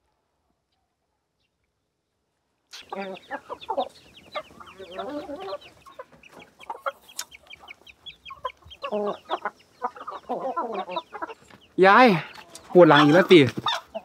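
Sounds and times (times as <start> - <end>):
chickens clucking: 2.7 - 14.0
chicks cheeping: 2.7 - 14.0.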